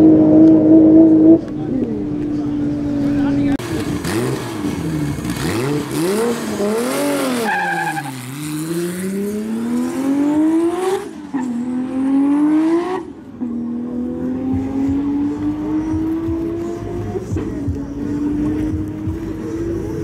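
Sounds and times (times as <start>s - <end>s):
car engine revving and accelerating: 0.0s - 20.0s.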